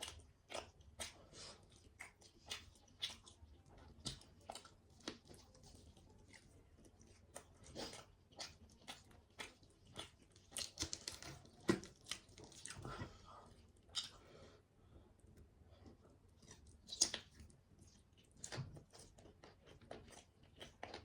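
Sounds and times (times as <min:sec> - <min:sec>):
person chewing crunchy food: 0:00.0 - 0:14.4, 0:15.8 - 0:21.0.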